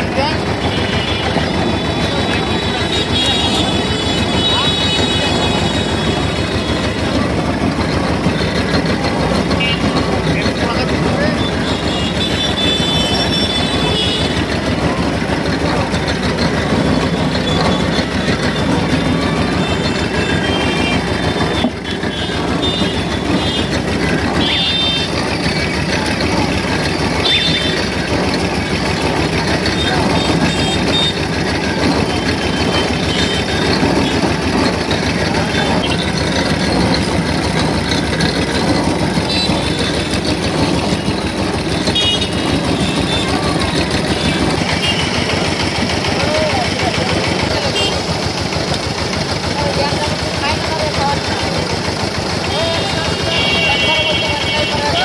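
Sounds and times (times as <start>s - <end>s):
people talking: 0.0s - 55.0s
sugarcane crusher hum and rattle: 0.0s - 55.0s.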